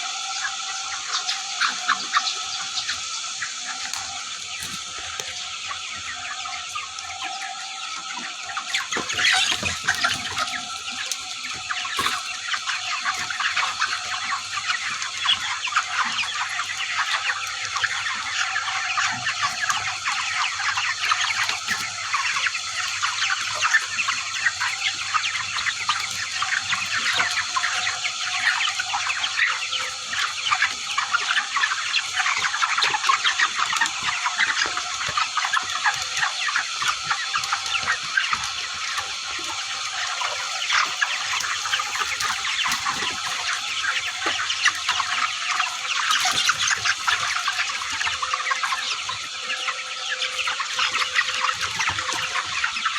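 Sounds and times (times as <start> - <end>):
chickens calling: 0.0 - 52.9.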